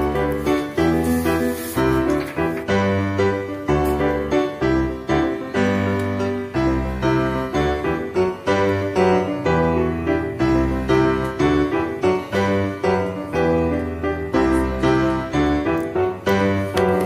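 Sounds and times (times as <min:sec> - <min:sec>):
keyboard melody: 0:00.0 - 0:17.0.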